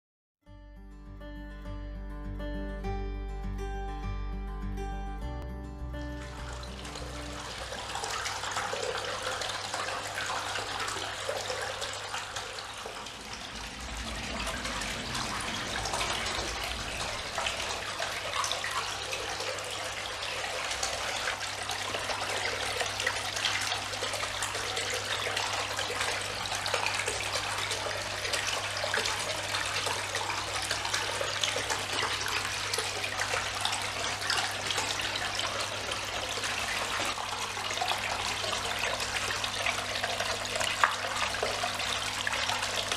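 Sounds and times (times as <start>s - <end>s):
low pump hum: 4.5s - 42.9s
fountain water splashing and trickling: 6.2s - 42.9s
bubbling water jet: 6.4s - 42.9s.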